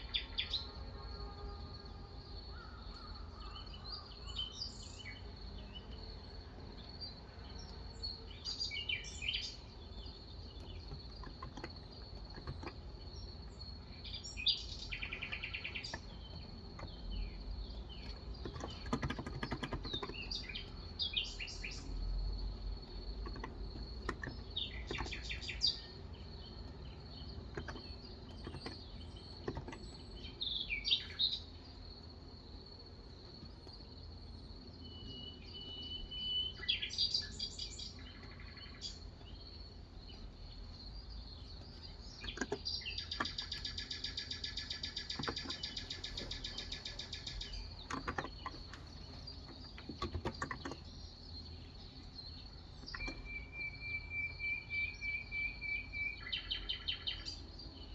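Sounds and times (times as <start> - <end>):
small birds chirping and singing: 0.0 - 57.9.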